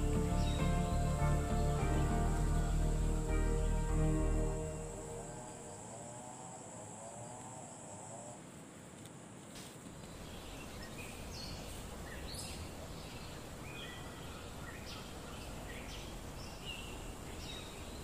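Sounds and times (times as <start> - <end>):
birds chirping: 0.0 - 7.4, 10.0 - 18.0
high insect drone: 0.0 - 18.0
low background hiss: 0.0 - 18.0.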